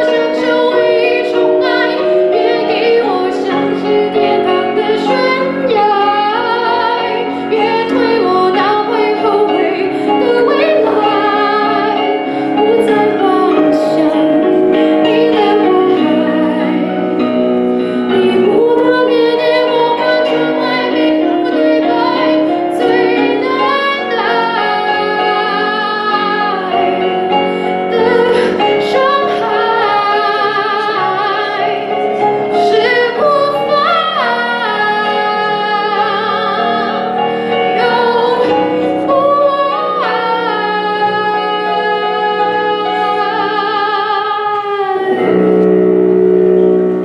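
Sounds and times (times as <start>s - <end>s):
woman singing pop ballad: 0.0s - 45.7s
instrumental accompaniment: 0.0s - 47.0s.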